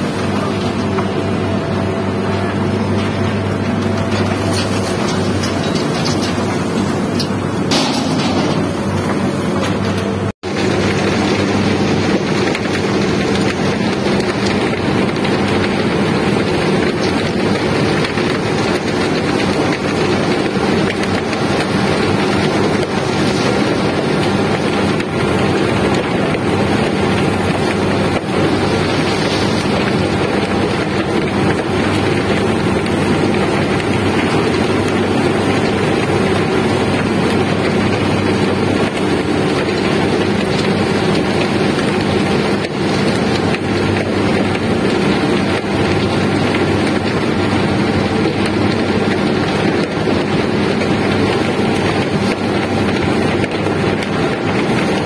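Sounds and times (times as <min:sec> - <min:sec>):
low machinery hum: 0:00.0 - 0:55.0.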